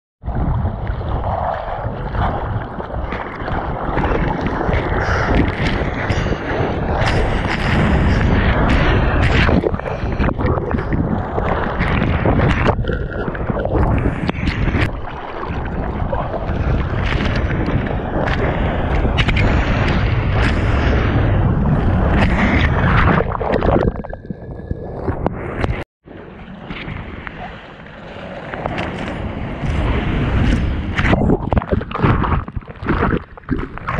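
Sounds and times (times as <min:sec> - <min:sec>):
ocean waves rushing and splashing: 0:00.3 - 0:33.9.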